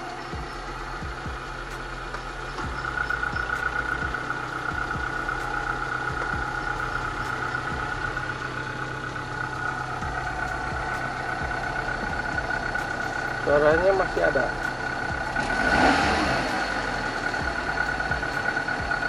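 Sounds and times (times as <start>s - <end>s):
engine idling hum: 0.0s - 19.0s
high-pitched rough drone: 0.0s - 19.0s.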